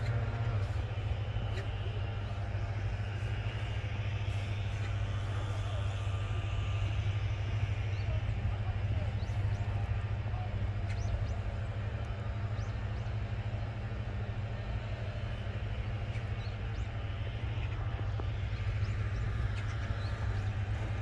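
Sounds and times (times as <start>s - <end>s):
distant city traffic rumble: 0.0s - 21.0s.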